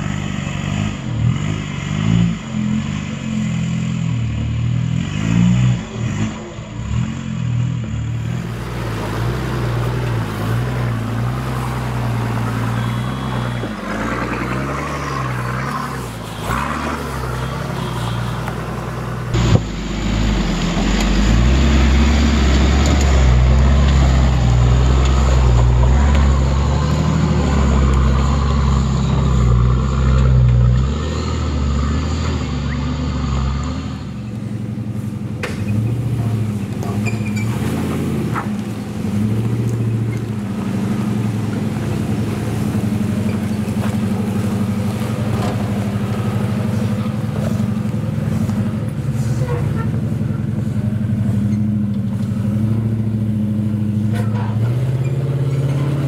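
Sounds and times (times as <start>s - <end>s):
engines revving under load: 0.0s - 56.0s.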